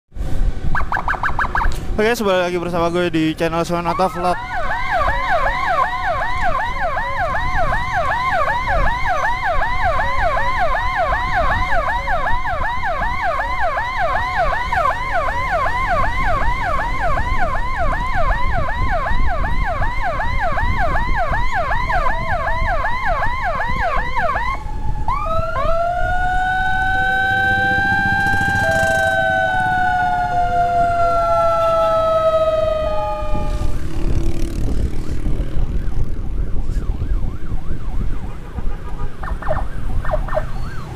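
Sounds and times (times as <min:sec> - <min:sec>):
wind and motorcycle road noise: 0:00.1 - 0:40.9
electronic siren yelp and wail: 0:00.7 - 0:01.8, 0:03.6 - 0:40.9.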